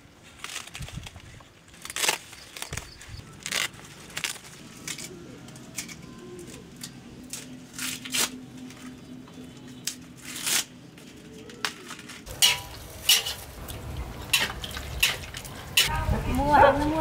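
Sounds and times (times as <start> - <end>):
sharp snaps and cracks: 0.2 - 15.9.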